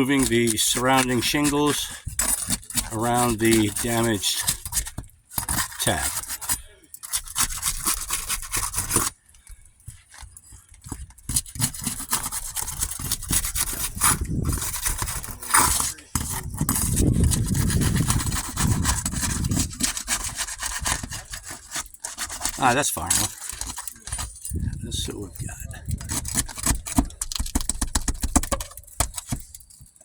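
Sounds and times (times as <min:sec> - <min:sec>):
roof shingles scraping and tearing: 0:00.0 - 0:30.0.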